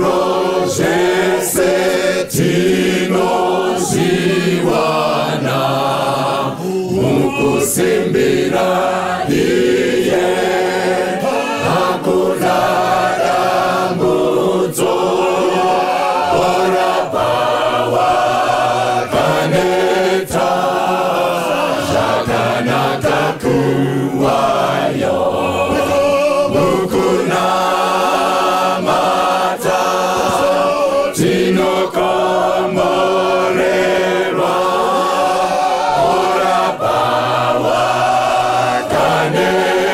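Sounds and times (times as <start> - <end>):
choir singing gospel: 0.0 - 39.9
men singing lead into microphones: 0.0 - 39.9.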